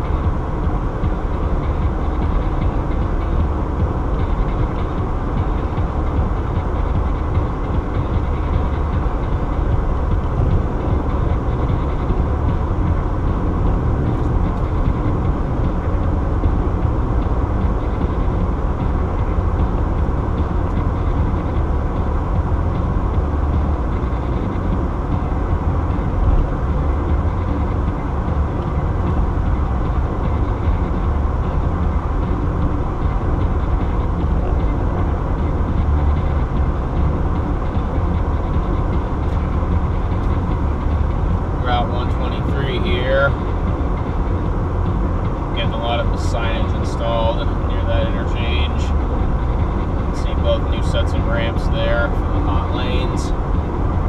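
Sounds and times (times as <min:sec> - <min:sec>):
car road noise at highway speed: 0:00.0 - 0:54.0.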